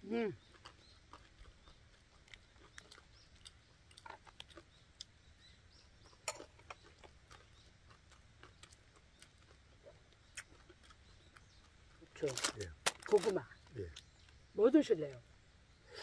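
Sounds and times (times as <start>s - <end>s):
people chewing food: 0.0s - 15.2s.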